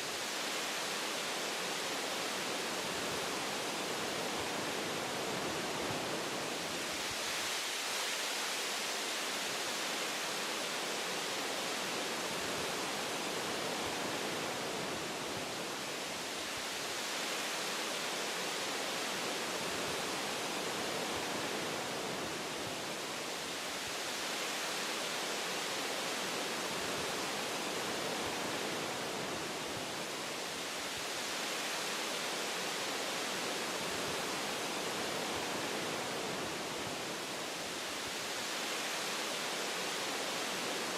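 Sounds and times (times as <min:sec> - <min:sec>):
wind rushing through tree branches: 0:00.0 - 0:40.9.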